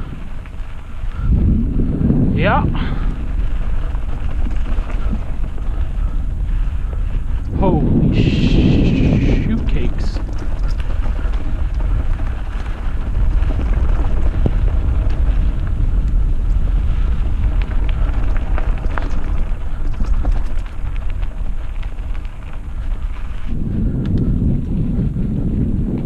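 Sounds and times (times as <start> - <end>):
bike clicks and rattles: 0.0 - 26.0
tyres on loose ground: 0.0 - 26.0
wind buffeting microphone: 0.0 - 26.0.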